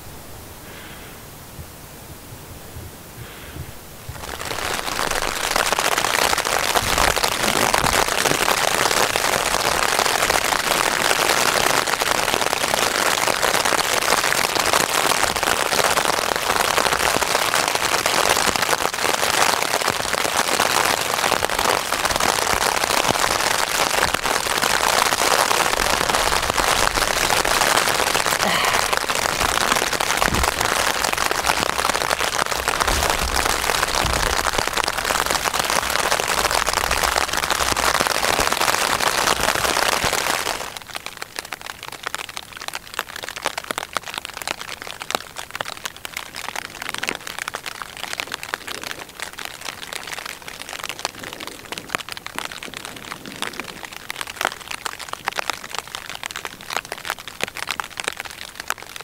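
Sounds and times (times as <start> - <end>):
dense rain patter: 0.0 - 59.0.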